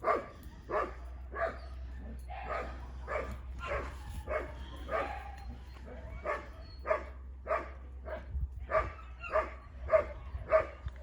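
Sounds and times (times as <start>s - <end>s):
dog barking: 0.0s - 1.6s, 2.4s - 5.4s, 6.0s - 10.8s.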